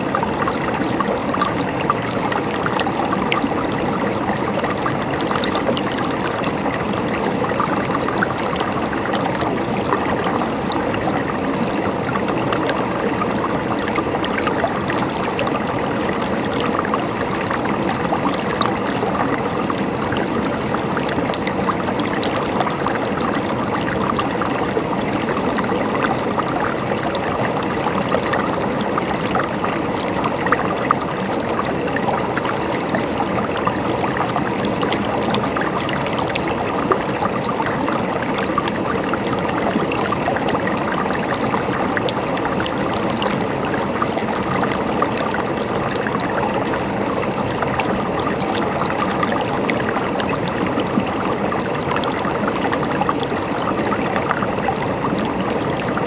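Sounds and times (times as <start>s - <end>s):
small water plinks: 0.0s - 56.0s
stream water babbling: 0.0s - 56.0s.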